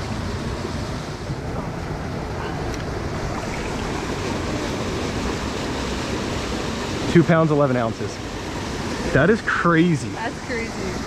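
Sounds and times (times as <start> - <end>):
fast mountain stream rushing: 0.0 - 11.0.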